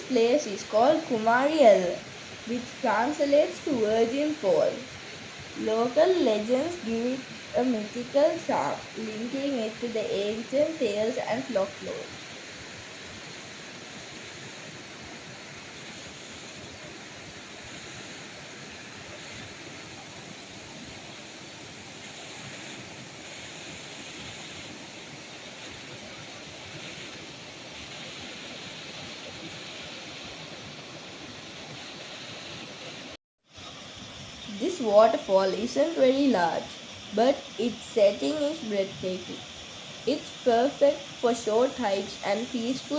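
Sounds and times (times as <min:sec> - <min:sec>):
waterfall rushing into pool: 0:00.0 - 0:42.9.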